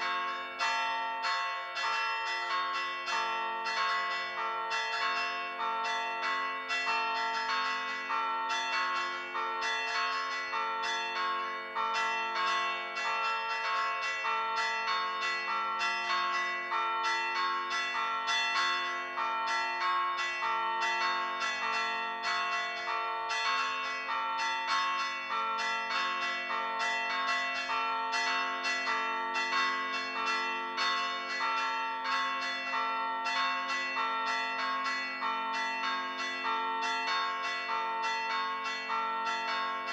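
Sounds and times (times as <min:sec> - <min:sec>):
church bells struck by hand: 0:00.0 - 0:39.9.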